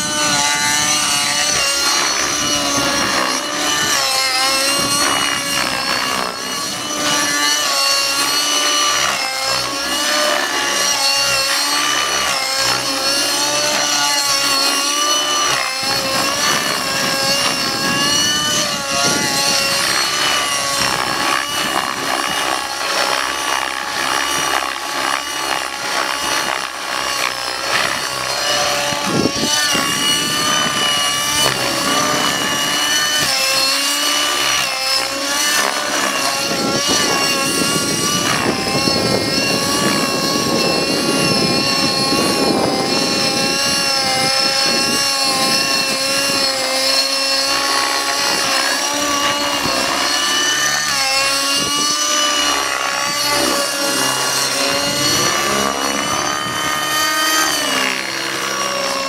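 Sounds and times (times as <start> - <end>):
rc helicopter engine high revving: 0.0 - 59.0.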